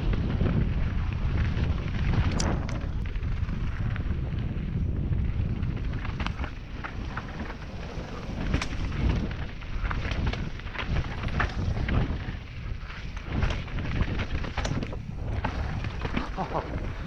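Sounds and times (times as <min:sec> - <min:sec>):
bike rattling over bumps: 0:00.0 - 0:17.0
bike tyre noise: 0:00.0 - 0:17.0
wind rumbling on microphone: 0:00.0 - 0:17.0.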